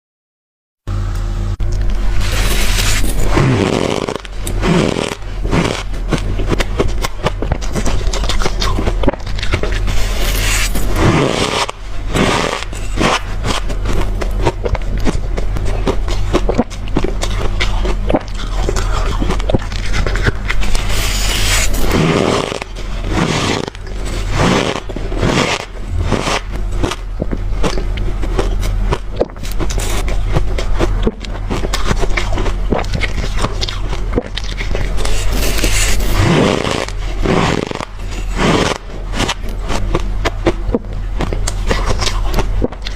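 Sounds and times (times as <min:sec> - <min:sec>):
steady low hum: 0:00.9 - 0:42.9
person chewing crushed ice: 0:01.6 - 0:42.9.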